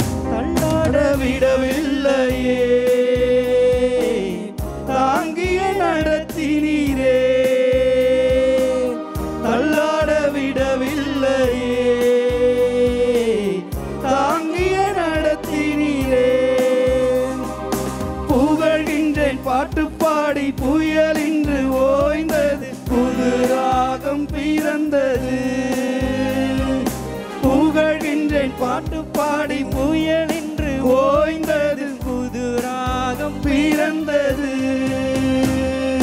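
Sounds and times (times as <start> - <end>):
man singing into microphone: 0.0 - 17.6, 18.3 - 36.0
instrumental backing with beat: 0.0 - 36.0.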